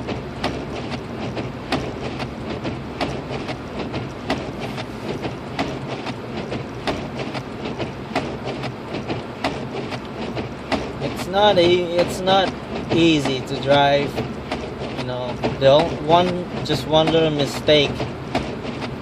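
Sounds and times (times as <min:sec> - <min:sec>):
car interior road drone: 0:00.0 - 0:19.0.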